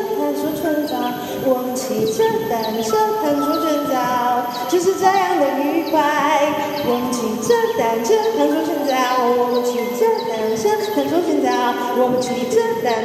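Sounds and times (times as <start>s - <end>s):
melodic backing track: 0.0s - 13.0s
woman singing: 0.0s - 13.0s.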